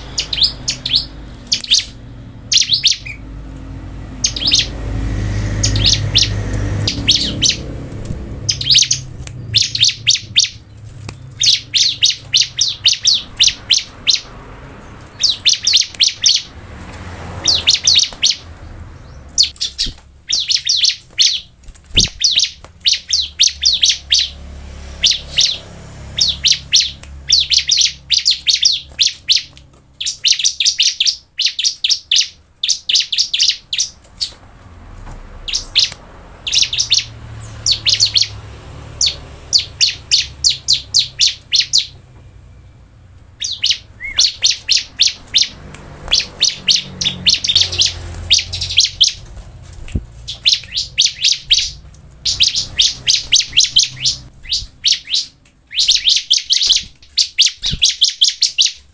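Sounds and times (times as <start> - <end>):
bird chirping: 0.0 - 34.5, 35.3 - 58.9.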